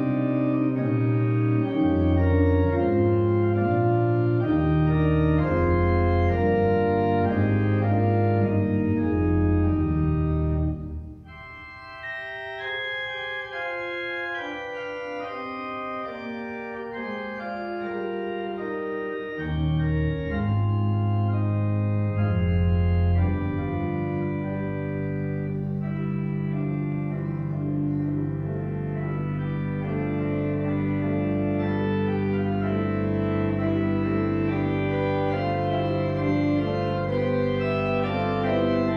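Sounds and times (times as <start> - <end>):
deep organ pedal bass: 0.0 - 38.9
pipe organ chords: 0.0 - 38.9.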